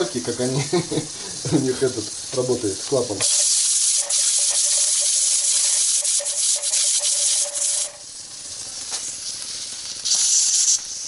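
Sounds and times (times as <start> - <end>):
loud burst of steam: 0.0 - 11.0
steam hissing from pressure cooker: 0.0 - 11.0.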